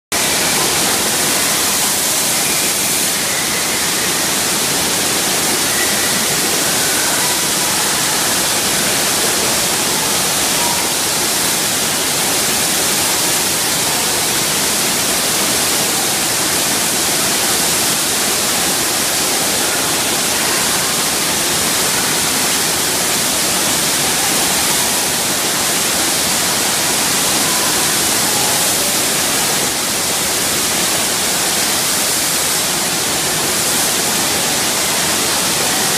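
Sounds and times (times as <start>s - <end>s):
rushing water on wave ride: 0.1s - 35.9s.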